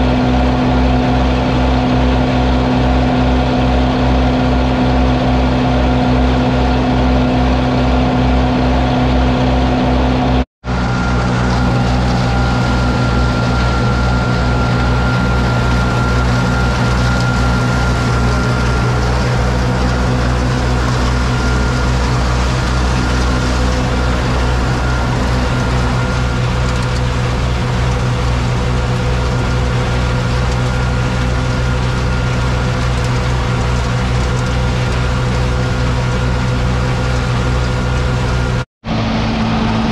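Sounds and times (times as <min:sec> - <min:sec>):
high whine: 0:00.0 - 0:39.9
steady mechanical hum: 0:00.0 - 0:39.9
tractors running: 0:00.0 - 0:39.9.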